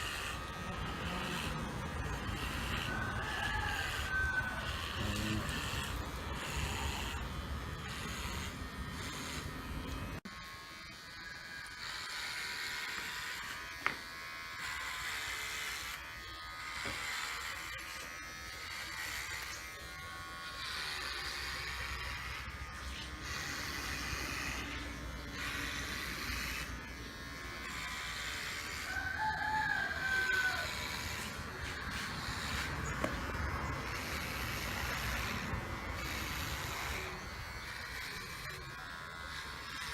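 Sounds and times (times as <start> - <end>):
hair clipper buzzing: 0.0 - 39.9.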